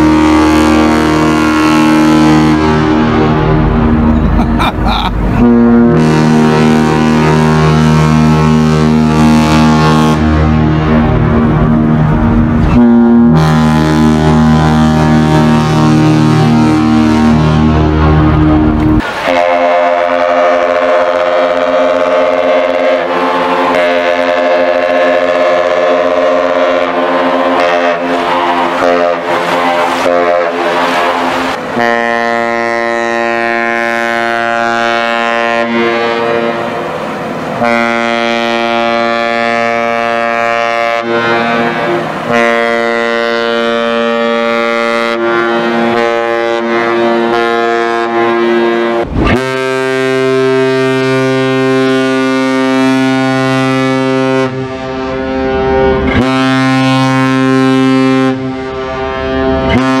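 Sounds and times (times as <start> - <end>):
deeper ship horn blasts: 0.0 - 60.0
ship horn blasts: 0.0 - 60.0.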